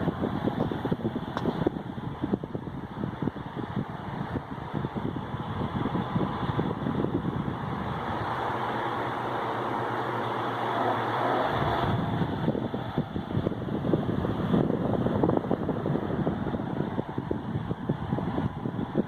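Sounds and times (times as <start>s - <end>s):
fan air rushing: 0.0s - 19.0s
wind rumble on microphone: 0.0s - 19.0s.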